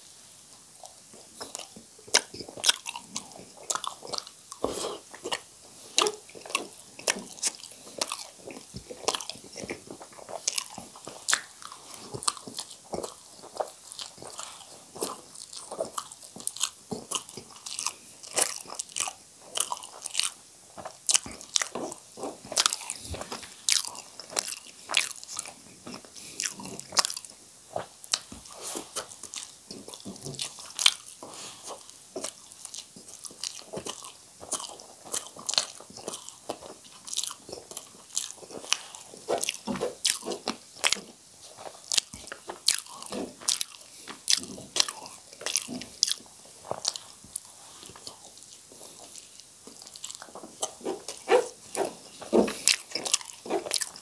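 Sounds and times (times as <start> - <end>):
person chewing and slurping noodles: 0.7 - 54.0.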